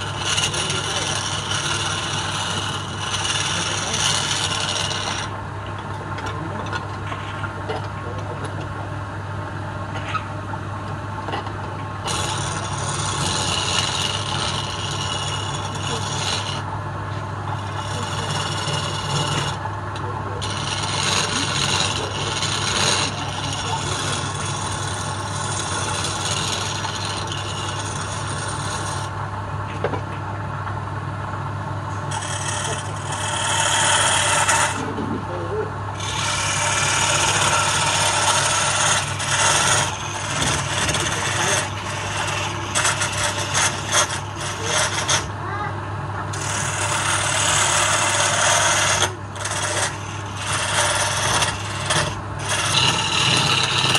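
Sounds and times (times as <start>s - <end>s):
turning tool scraping wood: 0.0s - 8.6s, 11.2s - 30.0s, 31.9s - 45.4s, 46.2s - 53.9s
wood lathe humming: 0.0s - 30.0s, 30.6s - 53.9s.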